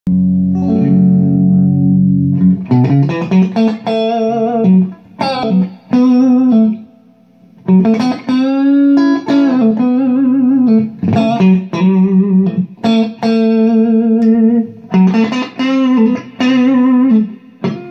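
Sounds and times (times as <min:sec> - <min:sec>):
electric guitar chord and lead: 0:00.1 - 0:17.9.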